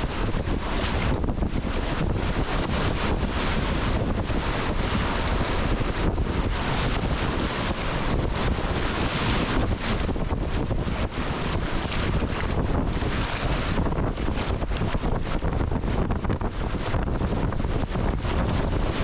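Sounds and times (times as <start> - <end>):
whitewater splashing against kayak: 0.0 - 19.0
wind buffeting microphone: 0.0 - 19.0.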